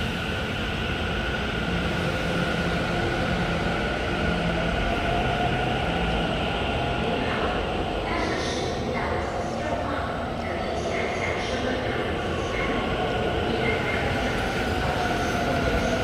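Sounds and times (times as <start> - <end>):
train rail running noise: 0.0 - 16.0.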